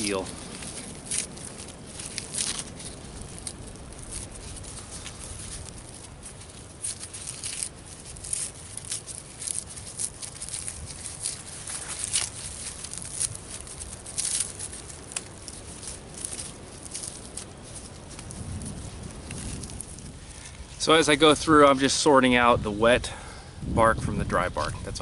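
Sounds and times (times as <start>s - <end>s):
bark tearing and crackling: 0.0s - 20.8s.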